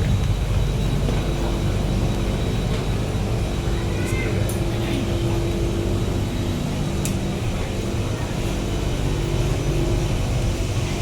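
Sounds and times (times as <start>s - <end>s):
train hum with electrical tones: 0.0s - 11.0s.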